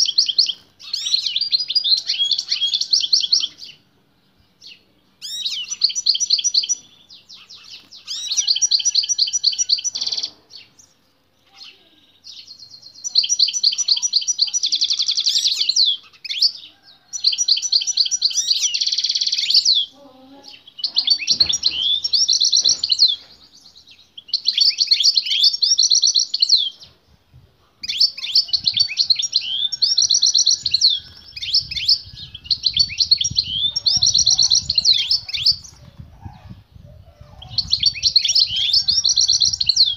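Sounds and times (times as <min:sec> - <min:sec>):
goldfinch twittering song: 0:00.0 - 0:03.8, 0:04.6 - 0:19.9, 0:20.5 - 0:27.0, 0:27.8 - 0:39.9.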